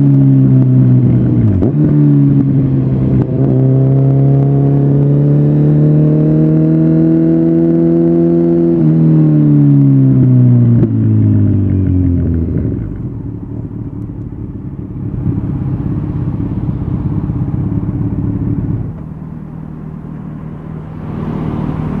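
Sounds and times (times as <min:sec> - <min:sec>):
motorcycle engine slowing and idling: 0:00.0 - 0:22.0.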